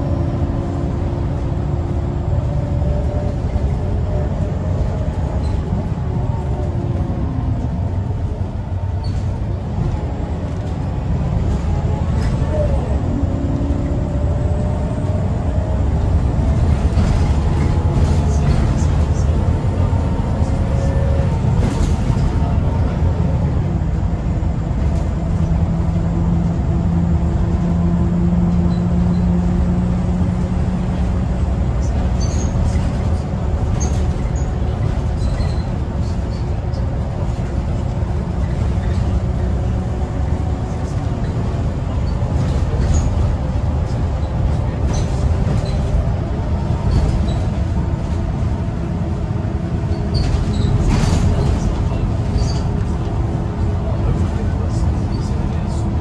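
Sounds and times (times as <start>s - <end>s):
bus engine rumble: 0.0s - 56.0s
road noise: 0.0s - 56.0s.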